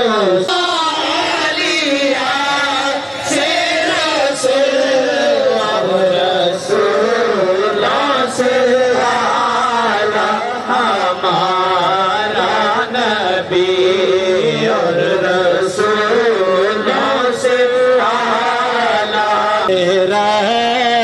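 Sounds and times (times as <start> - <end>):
man chanting devotional song: 0.0 - 21.0.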